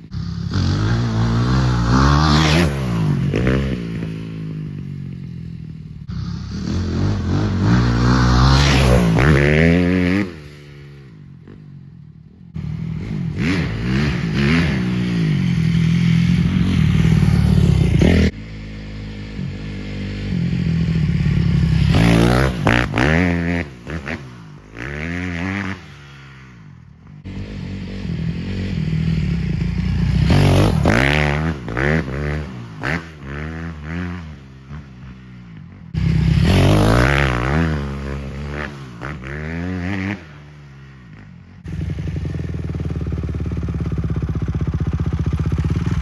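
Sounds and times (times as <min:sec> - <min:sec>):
dirt bike engine revving past: 0:00.0 - 0:05.3, 0:06.0 - 0:11.7, 0:12.6 - 0:46.0.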